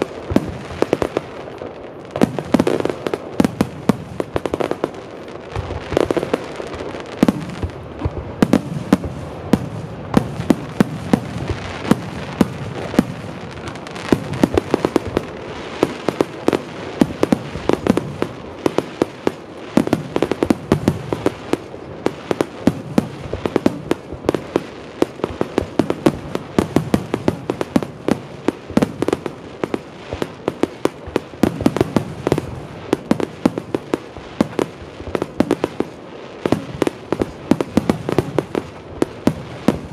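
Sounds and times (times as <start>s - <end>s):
fireworks bursting: 0.0s - 39.9s
fireworks crackle: 0.0s - 39.9s.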